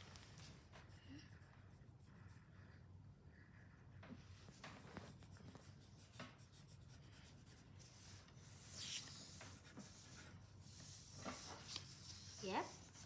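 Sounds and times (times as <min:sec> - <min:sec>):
pencil rubbing stroke: 0:00.2 - 0:13.0
pencil scratching on paper: 0:00.4 - 0:13.0.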